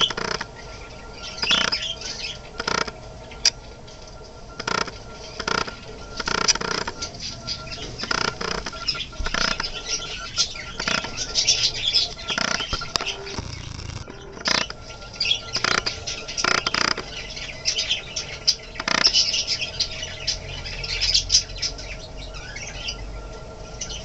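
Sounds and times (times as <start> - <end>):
budgies chirping: 0.0 - 24.0.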